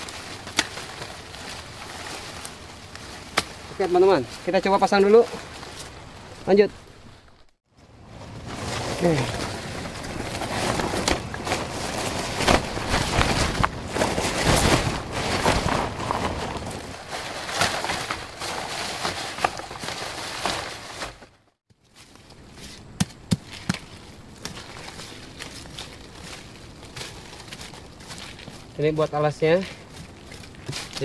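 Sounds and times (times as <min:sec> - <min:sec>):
dry leaves and twigs rustling: 0:00.0 - 0:31.0.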